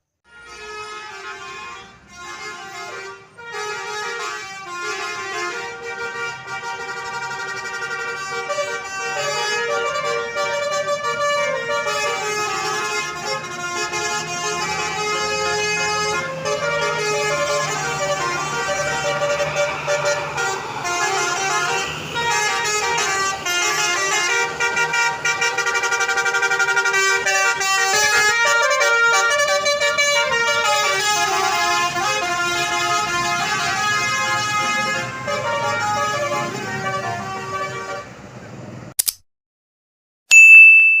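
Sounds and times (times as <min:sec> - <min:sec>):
bus musical horn playing tune: 0:00.2 - 0:38.3.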